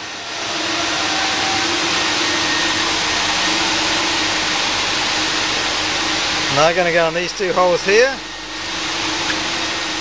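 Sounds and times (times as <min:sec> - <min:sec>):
faint steady hum: 0:00.0 - 0:10.0
ventilation air rushing: 0:00.0 - 0:10.0.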